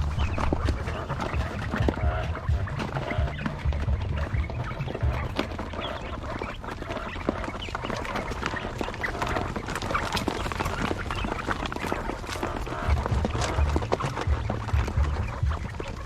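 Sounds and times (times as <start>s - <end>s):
quail calling and chirping: 0.0s - 16.0s.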